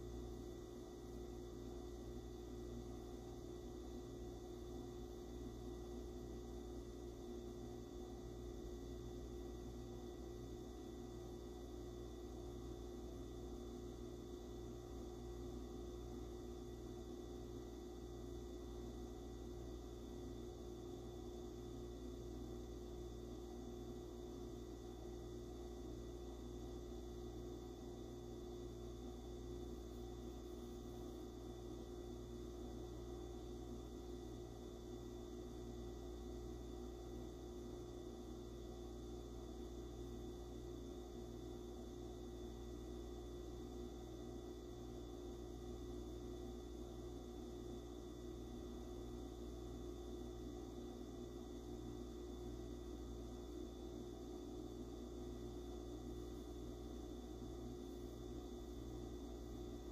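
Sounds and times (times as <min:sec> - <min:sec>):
low hum with steady tones: 0:00.0 - 0:59.9.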